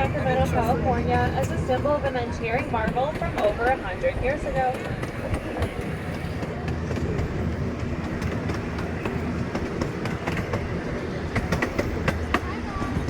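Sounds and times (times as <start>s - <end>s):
train rumbling on track: 0.0s - 13.0s
wheels clicking on rails: 0.0s - 13.0s.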